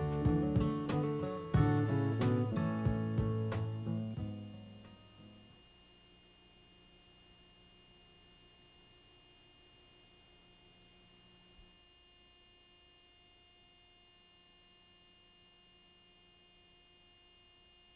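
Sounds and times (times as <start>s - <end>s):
faint electrical hum and hiss: 0.0s - 17.9s.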